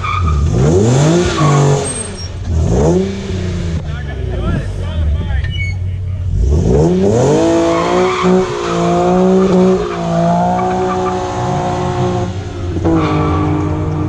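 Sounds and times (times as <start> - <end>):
car engine revving hard: 0.0 - 5.1, 6.2 - 14.0.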